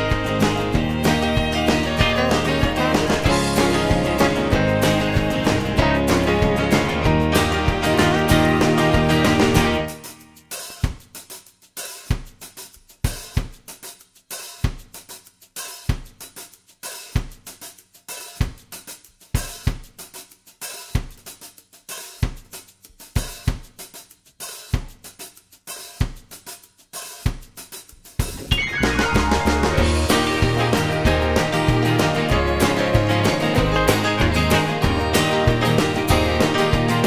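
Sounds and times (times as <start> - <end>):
drum kit playing a beat: 0.0 - 37.0.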